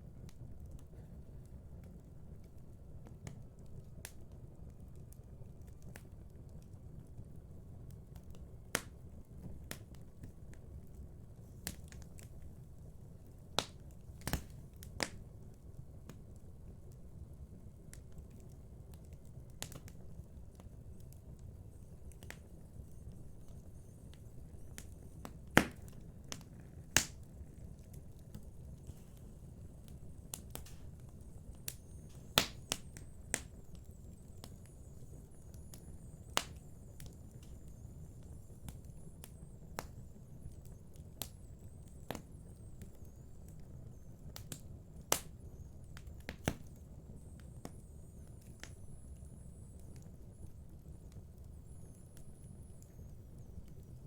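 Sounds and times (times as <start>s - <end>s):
low rumble of flames: 0.0s - 54.0s
wood fire crackling and popping: 0.1s - 54.0s.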